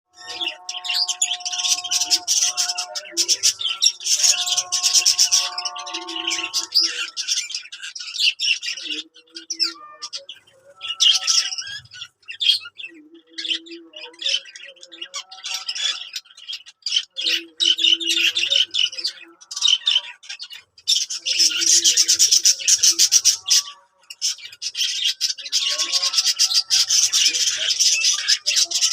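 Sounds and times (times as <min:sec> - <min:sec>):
budgerigars chattering and chirping: 0:00.2 - 0:28.9.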